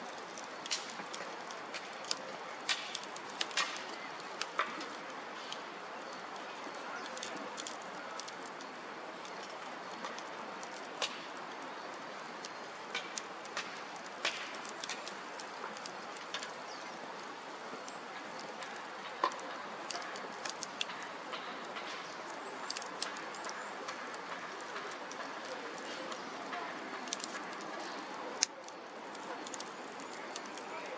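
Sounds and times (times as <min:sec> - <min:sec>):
fire pops and snaps: 0:00.1 - 0:30.9.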